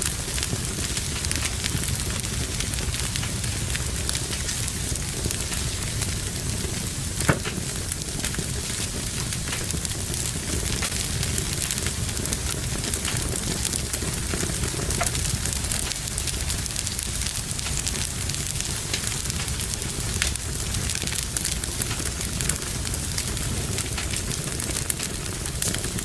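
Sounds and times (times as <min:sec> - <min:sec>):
fire crackling in a fireplace: 0:00.0 - 0:26.0.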